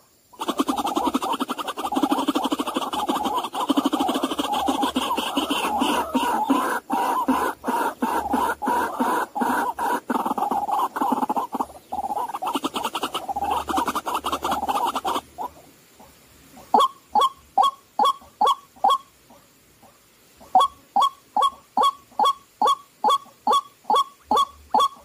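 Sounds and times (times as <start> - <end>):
bird single kwak calls: 0.0 - 15.6, 16.6 - 19.1, 20.4 - 25.0
waterhens croaking calls: 0.0 - 19.1, 20.4 - 25.0.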